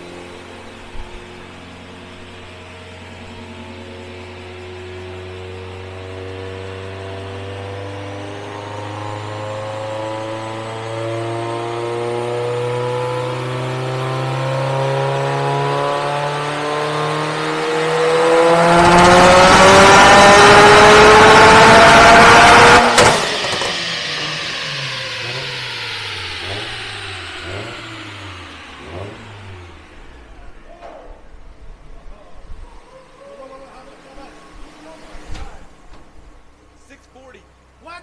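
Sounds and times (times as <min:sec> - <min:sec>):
turbocharged engine revving: 0:00.0 - 0:31.9
high turbo whine: 0:00.0 - 0:38.0.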